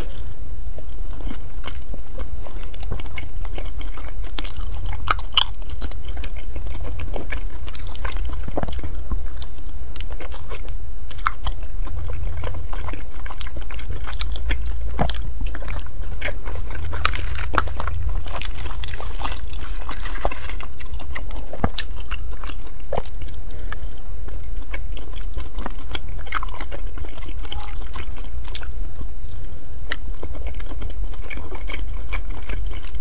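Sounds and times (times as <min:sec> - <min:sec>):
chewing soft food: 0:00.0 - 0:33.0
steady low hum: 0:00.0 - 0:33.0.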